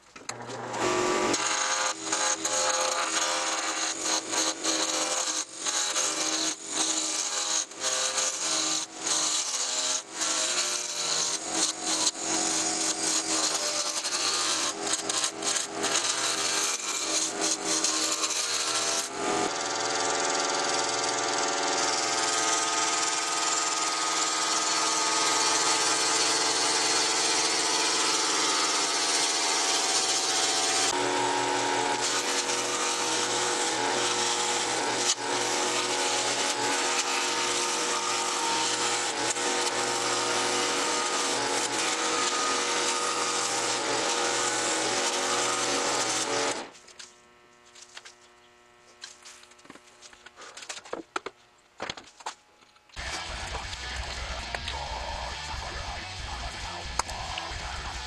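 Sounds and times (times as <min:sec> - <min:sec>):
wood lathe humming: 0:00.3 - 0:50.6
turning tool scraping wood: 0:00.3 - 0:51.4.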